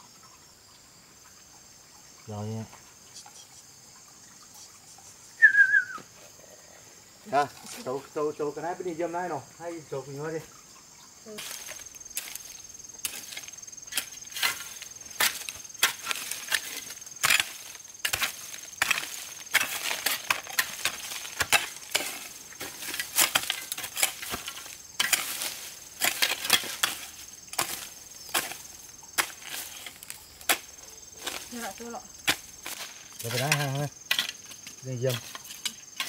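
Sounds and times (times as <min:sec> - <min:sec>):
high cricket tone: 0:00.0 - 0:36.0.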